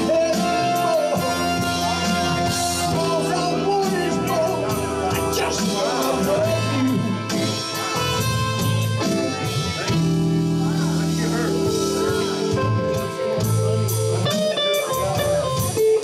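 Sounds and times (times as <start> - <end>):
drum kit with cymbals: 0.0 - 16.0
electric bass: 0.0 - 16.0
electric guitar: 0.0 - 16.0
keyboards: 0.0 - 16.0.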